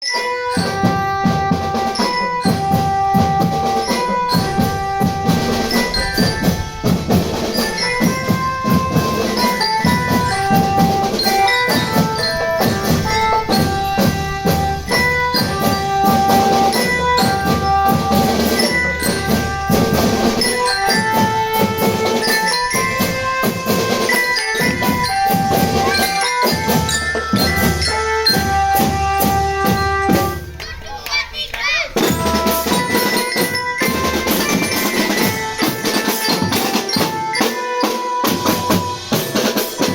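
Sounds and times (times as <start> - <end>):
marching drums and cymbals: 0.0 - 39.9.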